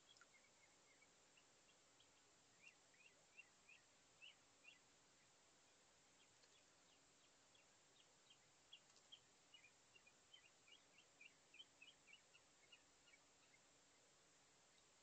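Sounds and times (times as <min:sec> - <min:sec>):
faint high bird chirping: 0:00.0 - 0:15.0.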